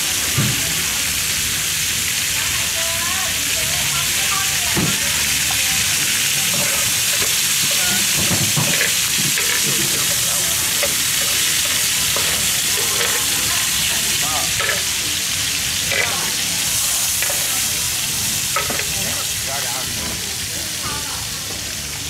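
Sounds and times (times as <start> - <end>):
seafood sizzling in butter: 0.0 - 22.0.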